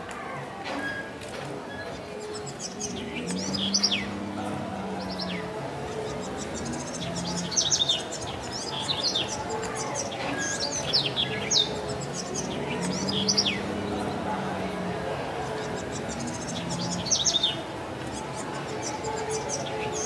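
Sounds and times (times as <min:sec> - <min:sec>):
small birds chirping: 0:01.7 - 0:20.0.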